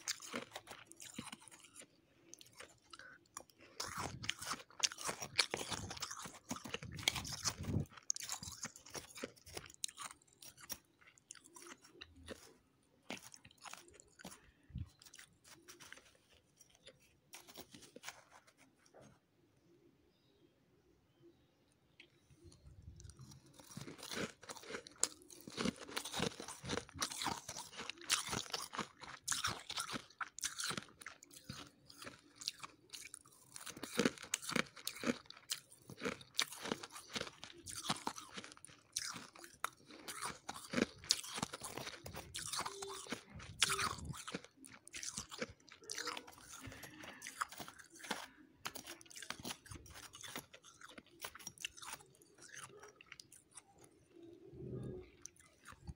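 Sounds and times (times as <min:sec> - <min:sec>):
chewing crunchy frost: 0:00.0 - 0:19.2, 0:22.0 - 0:55.9.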